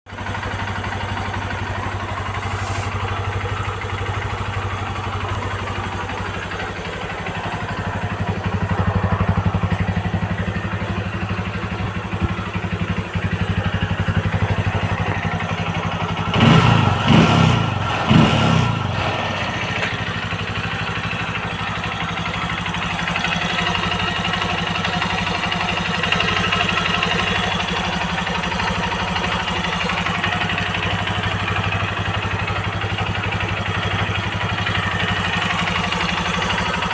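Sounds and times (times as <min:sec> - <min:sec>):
motorcycle engine idling and revving: 0:00.1 - 0:36.9.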